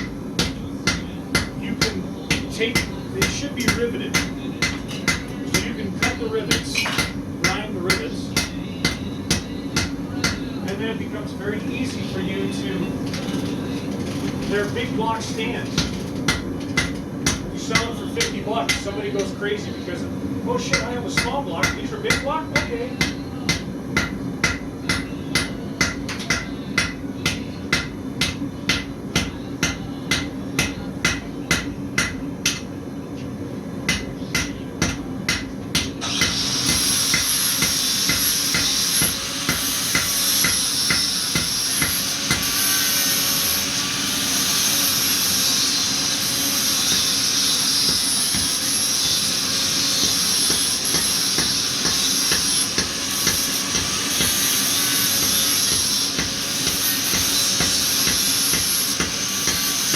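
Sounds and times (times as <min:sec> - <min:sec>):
hammer striking metal on anvil: 0:00.0 - 0:10.5, 0:15.8 - 0:18.9, 0:20.7 - 0:32.7, 0:33.9 - 0:43.8, 0:45.8 - 0:59.9.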